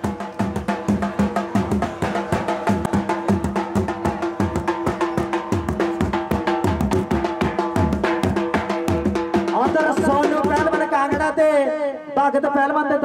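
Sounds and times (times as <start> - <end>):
fast folk drumming: 0.0 - 12.0.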